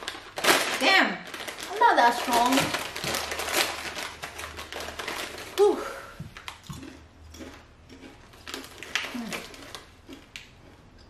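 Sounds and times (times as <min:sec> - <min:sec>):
plastic snack bag crinkling: 0:00.0 - 0:10.8.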